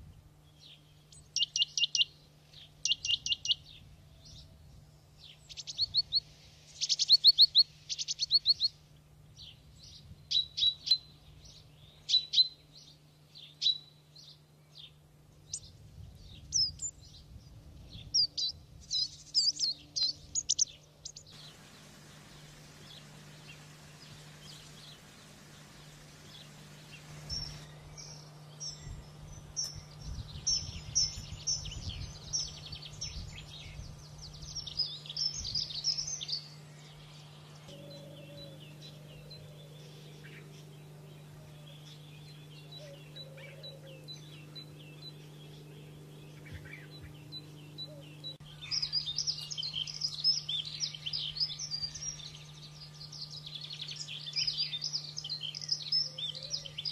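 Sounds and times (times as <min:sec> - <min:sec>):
faint low hum: 0:00.0 - 0:56.9
canaries singing: 0:00.4 - 0:04.5, 0:05.2 - 0:08.8, 0:09.4 - 0:56.9.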